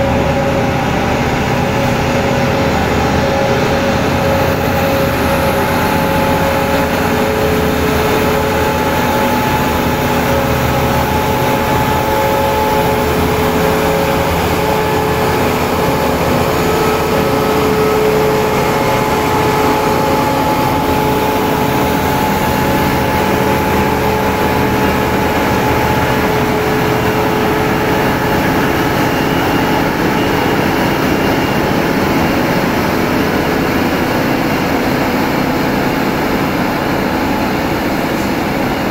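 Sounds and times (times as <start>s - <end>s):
heavy engine rumbling: 0.0s - 38.9s
steady whine: 0.0s - 38.9s.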